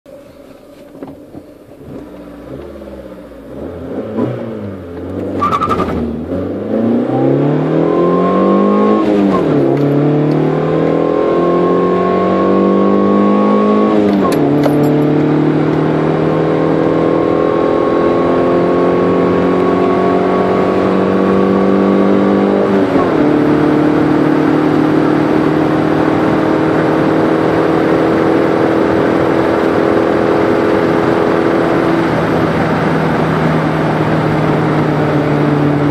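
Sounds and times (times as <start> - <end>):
car engine accelerating hard: 1.6 - 35.9.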